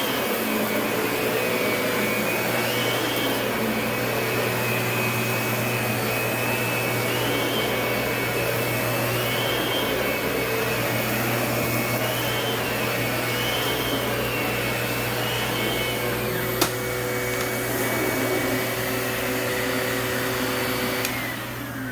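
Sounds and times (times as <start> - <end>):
vacuum cleaner running: 0.0 - 21.9.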